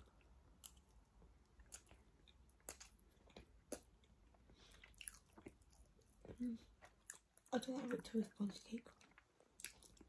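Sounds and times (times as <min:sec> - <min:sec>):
soft chewing: 0:00.0 - 0:10.0.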